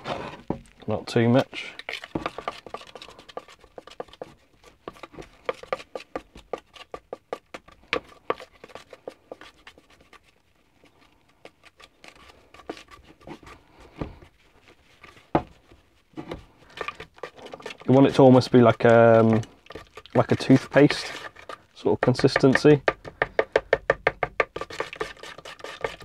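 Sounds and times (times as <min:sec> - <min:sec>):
grout scratching in plastic bowl: 0:00.0 - 0:26.0.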